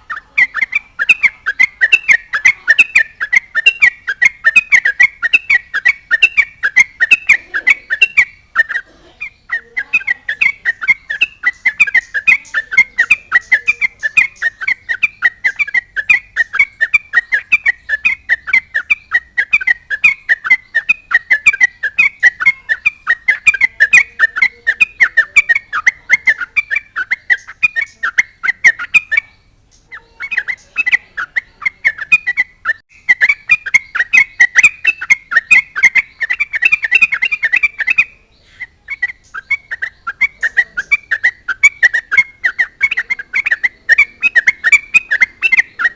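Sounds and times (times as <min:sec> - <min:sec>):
bird singing bubbly whistled notes: 0:00.0 - 0:45.9.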